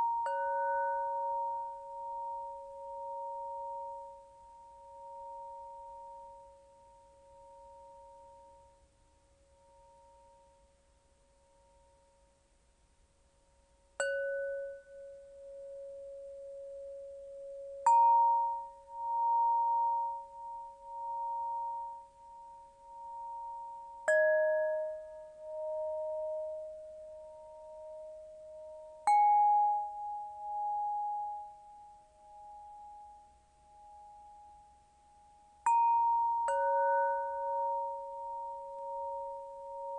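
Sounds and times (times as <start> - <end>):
crystal bell ringing tone: 0.0 - 8.8, 14.0 - 39.9.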